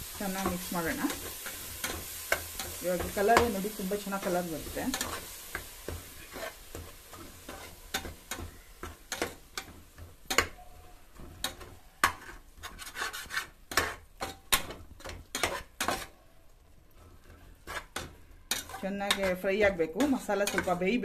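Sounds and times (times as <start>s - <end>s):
spice paste frying: 0.0s - 21.0s
spatula scraping a metal pot: 0.2s - 10.5s, 11.2s - 16.2s, 16.9s - 21.0s.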